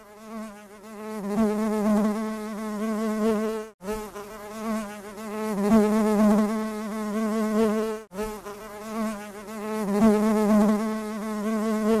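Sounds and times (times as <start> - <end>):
bee buzzing: 0.0 - 12.0.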